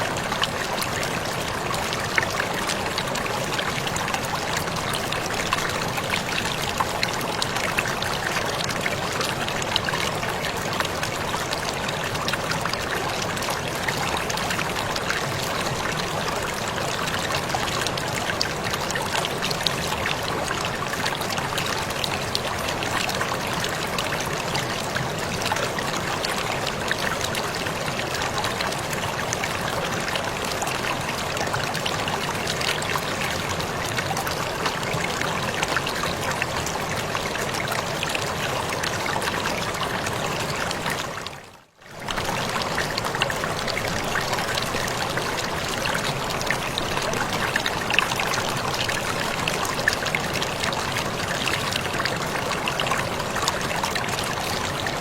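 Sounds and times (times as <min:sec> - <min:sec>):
waterfall pouring: 0:00.0 - 0:55.0.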